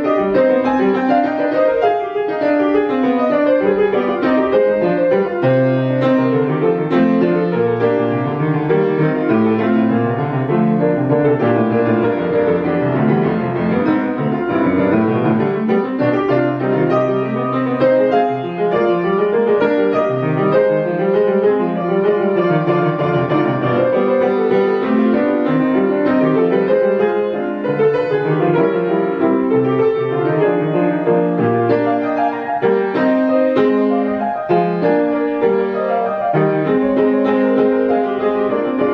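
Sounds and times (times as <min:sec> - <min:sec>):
solo grand piano piece: 0:00.0 - 0:38.9.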